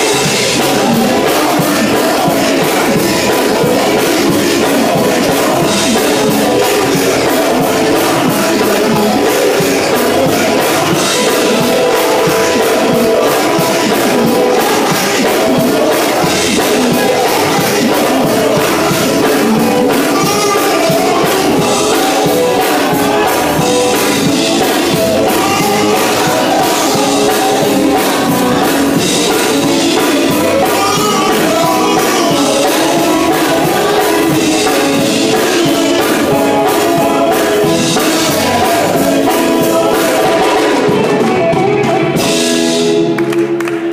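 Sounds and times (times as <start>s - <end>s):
male group singing in harmony: 0.0s - 42.8s
drums: 0.0s - 43.9s
electric guitar: 0.0s - 43.9s.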